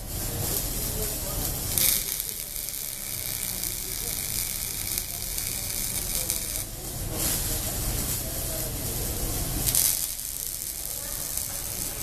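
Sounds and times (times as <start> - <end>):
arc welding crackle: 0.0 - 12.0.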